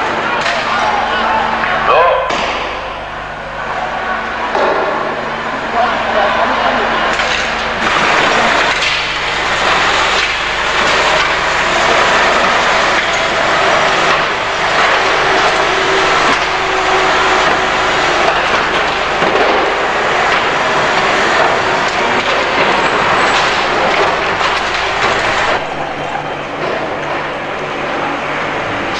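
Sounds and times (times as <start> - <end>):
truck engine running: 2.8 - 28.9.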